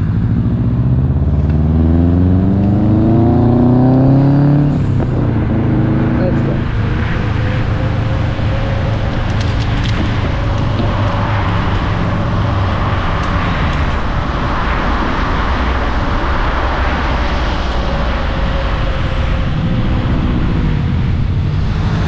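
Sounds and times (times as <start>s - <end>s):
road rumble: 0.0s - 22.0s
wind buffeting microphone: 0.0s - 22.0s.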